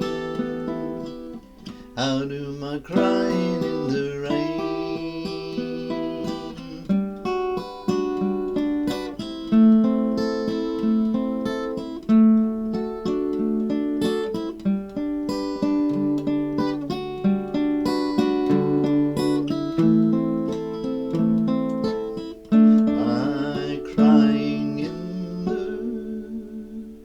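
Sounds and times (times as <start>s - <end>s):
acoustic guitar picking and strumming: 0.0s - 27.0s.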